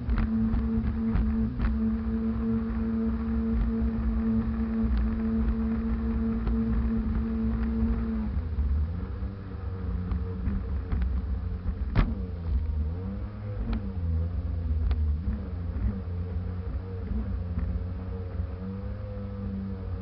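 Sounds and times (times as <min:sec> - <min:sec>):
personal watercraft engine running: 0:00.0 - 0:20.0.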